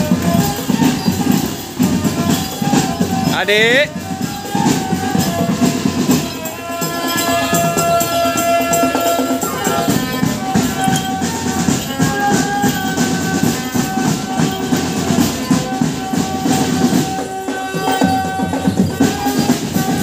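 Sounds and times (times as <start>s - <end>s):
rapid marching drumming: 0.0s - 20.0s.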